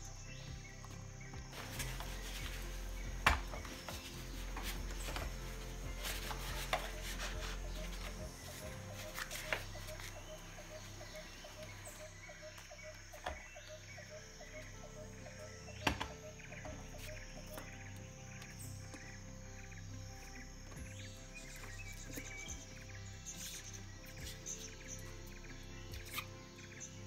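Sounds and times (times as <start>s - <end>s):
soft background music: 0.0s - 27.0s.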